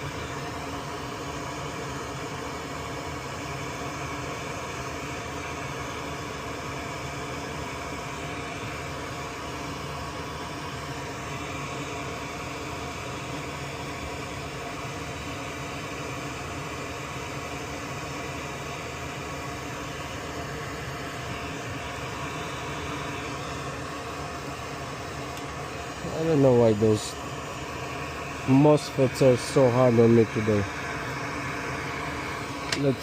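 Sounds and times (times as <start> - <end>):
blower fan hissing: 0.0 - 33.0
faint hum tones: 0.0 - 33.0.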